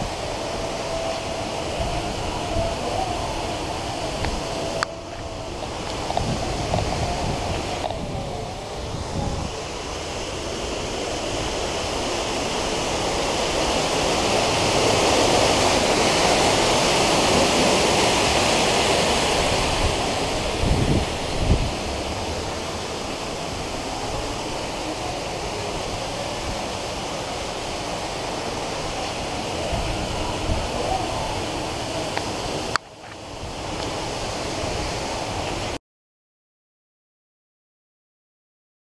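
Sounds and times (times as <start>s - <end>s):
steady rushing noise: 0.0s - 35.8s.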